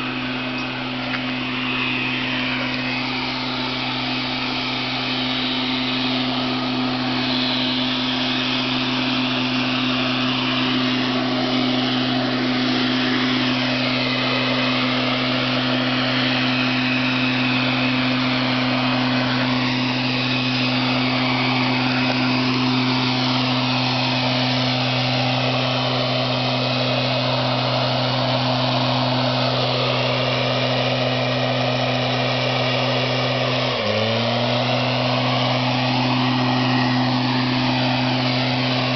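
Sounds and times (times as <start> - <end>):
air rushing from nozzle: 0.0 - 38.9
leaf blower engine drone: 0.0 - 38.9.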